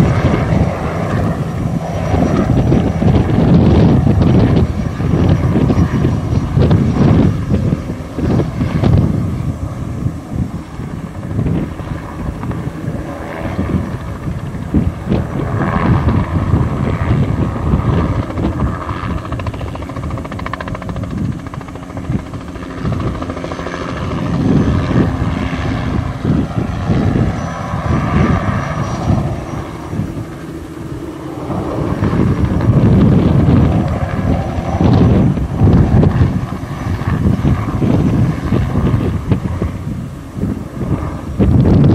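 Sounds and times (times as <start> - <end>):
helicopter rotor beating: 0.0 - 41.9.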